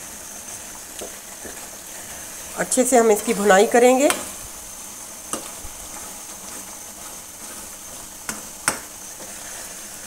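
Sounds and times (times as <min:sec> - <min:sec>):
curry sizzling in a pan: 0:00.0 - 0:10.0.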